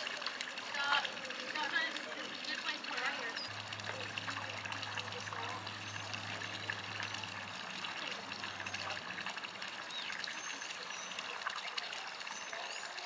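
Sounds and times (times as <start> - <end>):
water lapping around hulls: 0.0 - 13.0.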